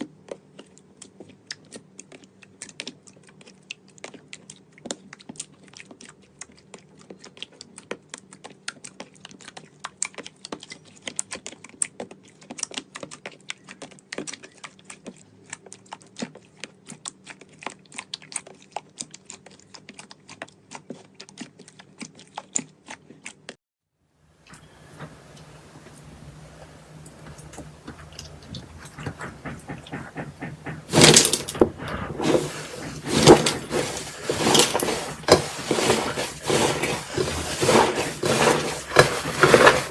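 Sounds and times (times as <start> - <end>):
slime squishing and crunching: 0.4 - 23.6, 27.2 - 39.9.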